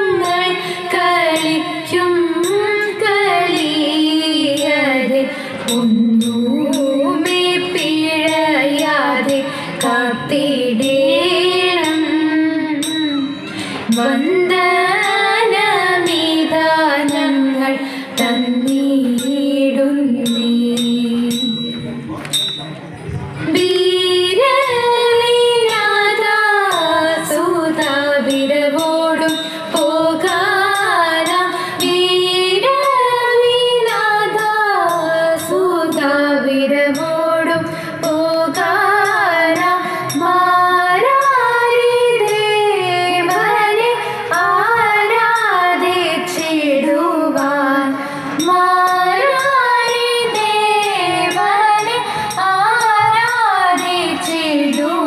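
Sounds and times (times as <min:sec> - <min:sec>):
woman singing: 0:00.0 - 0:21.9, 0:23.4 - 0:55.0.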